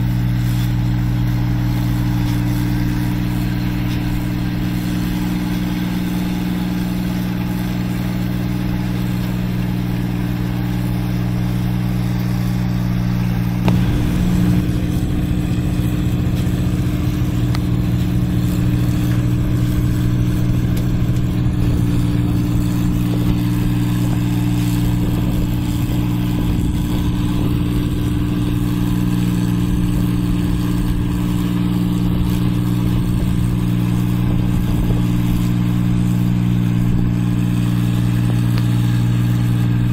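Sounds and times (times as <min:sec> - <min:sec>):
combine harvester engine drone: 0:00.0 - 0:39.9
deep low rumble: 0:00.0 - 0:39.9
working machinery noise: 0:00.0 - 0:39.9.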